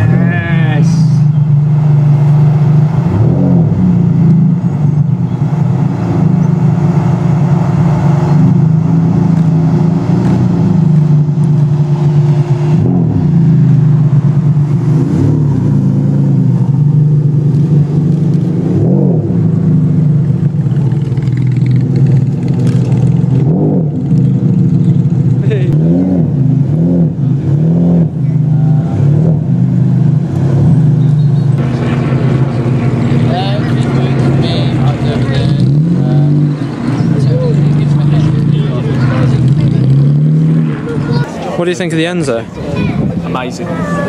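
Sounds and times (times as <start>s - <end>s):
engine idling with throttle blips: 0.0s - 44.0s.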